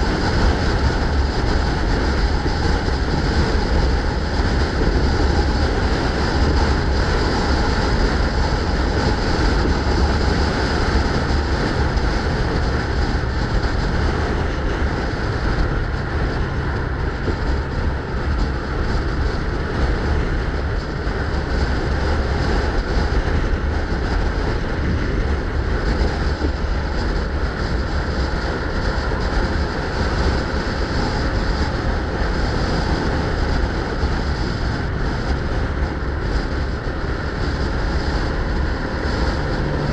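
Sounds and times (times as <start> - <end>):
road and traffic noise: 0.0 - 39.9
wind rumbling on microphone: 0.0 - 39.9.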